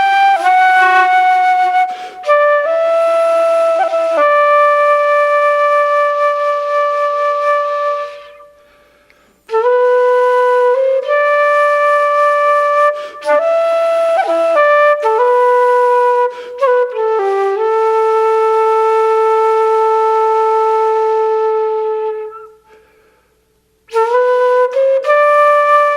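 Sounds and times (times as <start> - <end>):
solo flute melody: 0.0 - 8.9, 9.5 - 23.0, 23.9 - 25.9.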